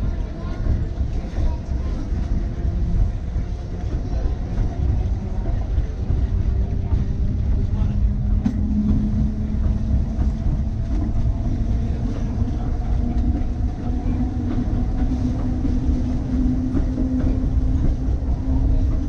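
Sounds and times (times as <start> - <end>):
railcar wheels rumbling on rail: 0.0 - 19.0.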